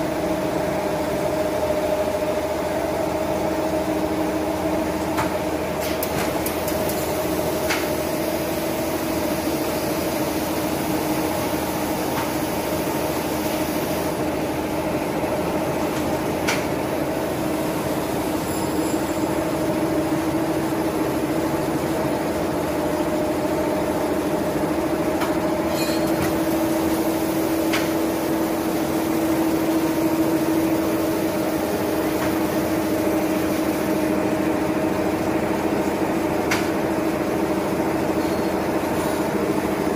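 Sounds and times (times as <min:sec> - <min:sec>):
bag making machine humming: 0:00.0 - 0:39.9.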